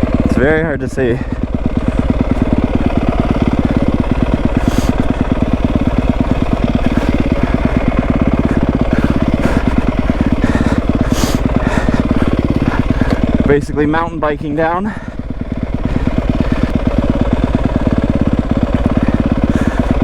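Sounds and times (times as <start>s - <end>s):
motorcycle engine putter: 1.2s - 20.0s.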